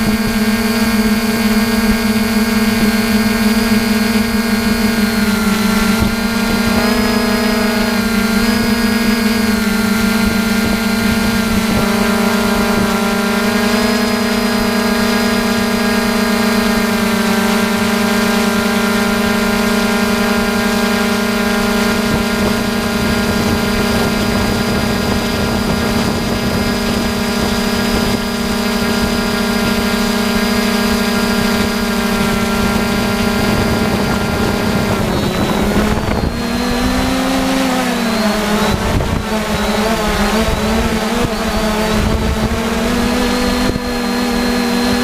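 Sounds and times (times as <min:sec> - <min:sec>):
drone propellers whining: 0:00.0 - 0:45.0.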